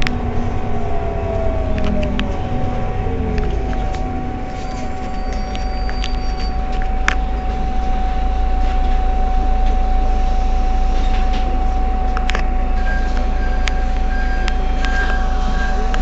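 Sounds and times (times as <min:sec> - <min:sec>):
intermittent beeping: 0:00.0 - 0:10.1, 0:11.8 - 0:16.0
bus engine idling: 0:00.0 - 0:16.0
constant whine: 0:00.0 - 0:16.0.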